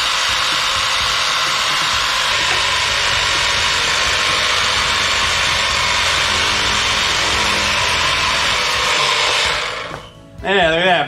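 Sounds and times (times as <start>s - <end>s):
pressure washer hissing: 0.0s - 10.0s.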